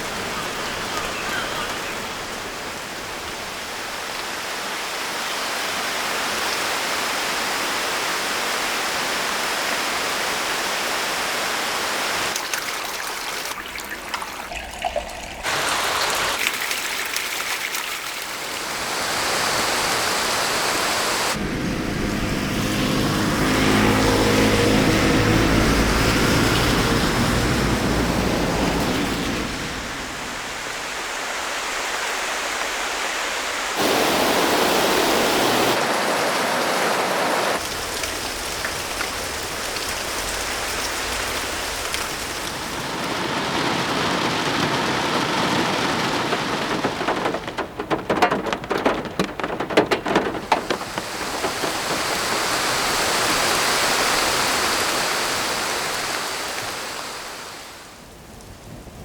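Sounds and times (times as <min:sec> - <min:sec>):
rainfall hiss: 0:00.0 - 0:47.6, 0:50.3 - 0:59.0.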